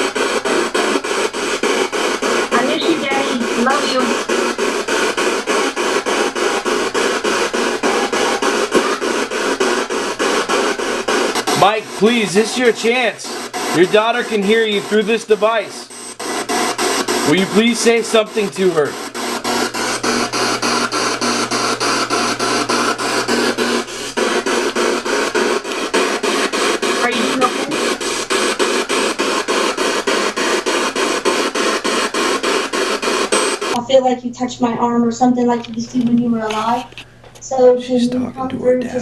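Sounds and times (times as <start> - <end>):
chopped radio static hiss: 0.0 - 39.0
snatches of broadcast sound: 0.0 - 39.0.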